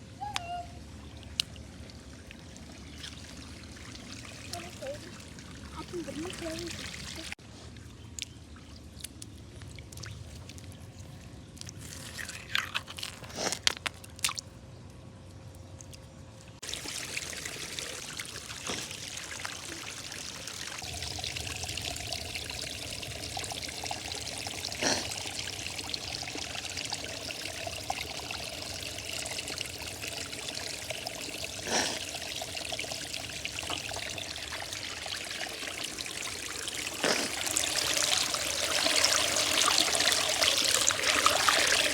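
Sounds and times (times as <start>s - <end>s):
creek water trickling: 0.4s - 14.5s, 15.8s - 41.9s.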